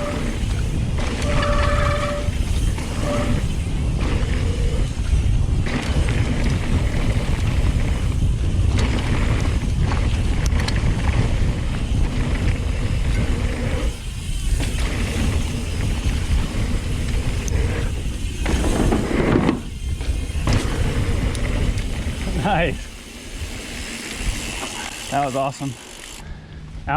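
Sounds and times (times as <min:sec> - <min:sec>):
wind rumbling on microphone: 0:00.0 - 0:25.1
tyres rolling on dirt: 0:00.0 - 0:26.2
bike rattling over bumps: 0:00.0 - 0:26.5.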